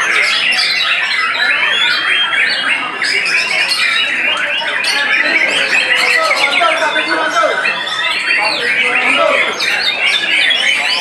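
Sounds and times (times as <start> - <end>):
songbirds singing and chattering: 0.0 - 11.0.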